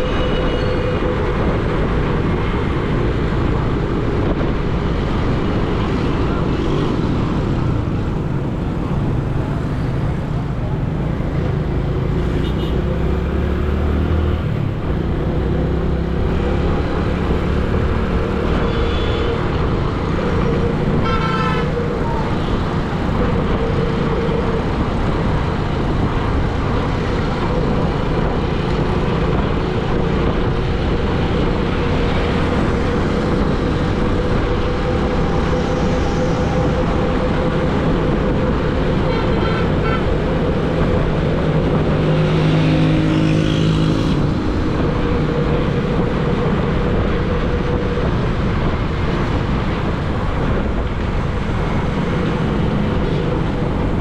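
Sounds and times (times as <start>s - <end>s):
vehicle engines running: 0.0s - 54.0s.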